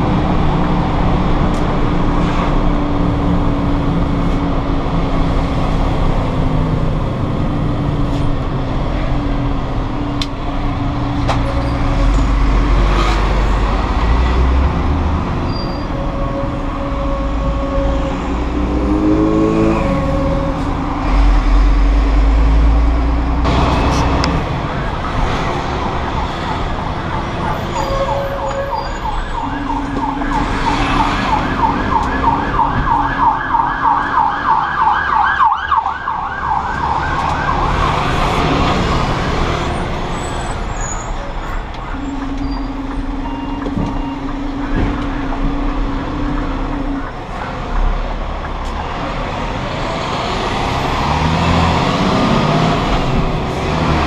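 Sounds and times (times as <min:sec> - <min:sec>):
diesel lorry engine droning: 0:00.0 - 0:54.0.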